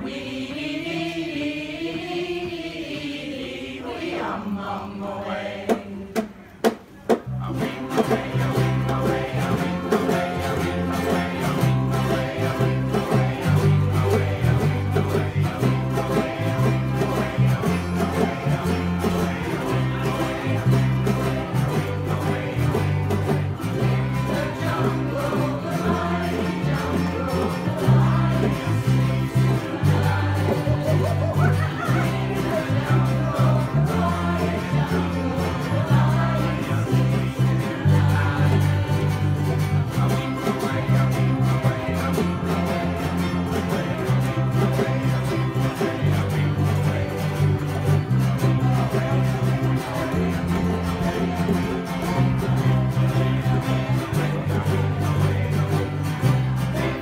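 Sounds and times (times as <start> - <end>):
voices singing along: 0.0 - 57.0
ukulele ensemble strumming: 3.8 - 57.0.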